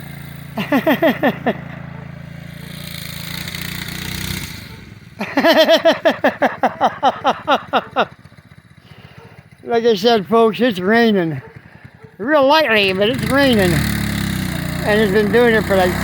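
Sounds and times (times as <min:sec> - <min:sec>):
trike engine running: 0:00.0 - 0:16.0.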